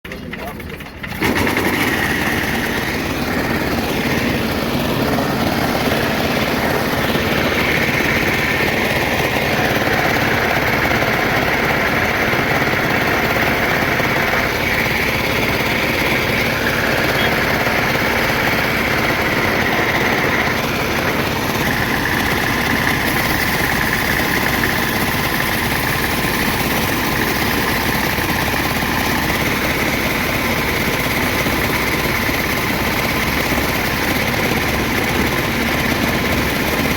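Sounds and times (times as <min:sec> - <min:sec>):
workshop machine whining: 0:00.1 - 0:36.9.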